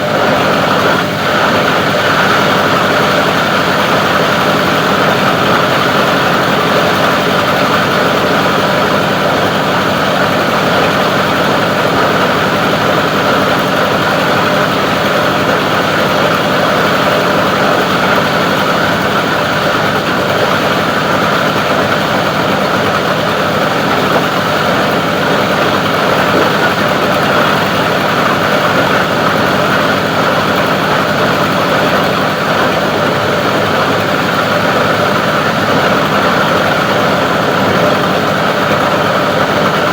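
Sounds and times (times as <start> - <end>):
grinder machine running: 0.0 - 39.9.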